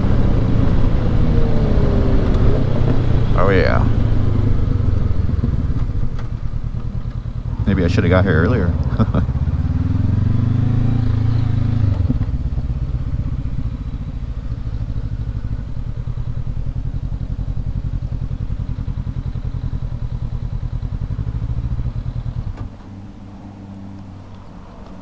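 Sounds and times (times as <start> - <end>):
motorcycle engine at low revs: 0.0 - 25.0.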